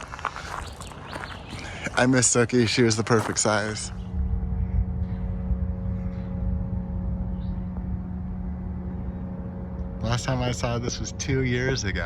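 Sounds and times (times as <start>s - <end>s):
machine engine rumbling: 0.0s - 12.0s.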